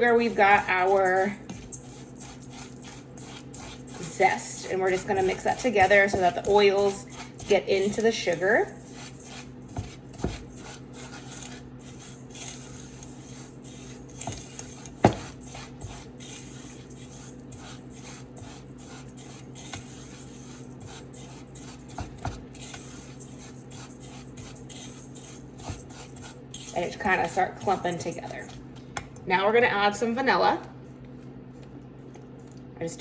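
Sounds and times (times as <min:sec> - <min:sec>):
utensil scraping sugar in bowl: 0:00.0 - 0:28.9
steady low hum: 0:00.0 - 0:33.0.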